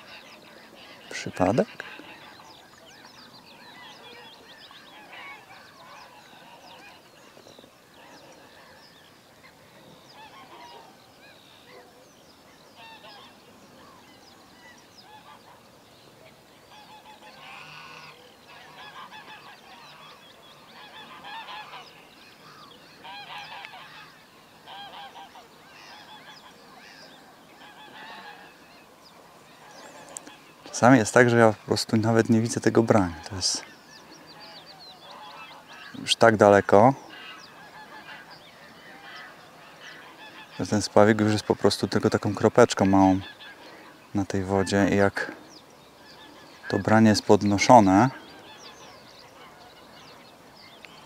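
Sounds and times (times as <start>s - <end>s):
bird chirps: 0.0s - 51.0s.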